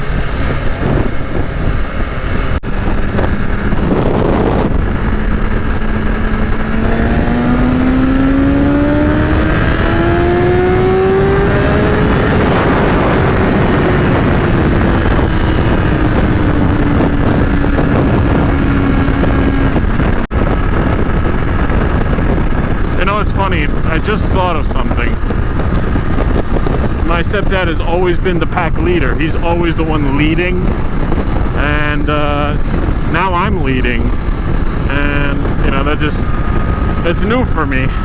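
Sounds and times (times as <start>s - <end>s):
motorcycle engine accelerating: 0.0s - 38.0s
wind rush over helmet: 0.0s - 38.0s.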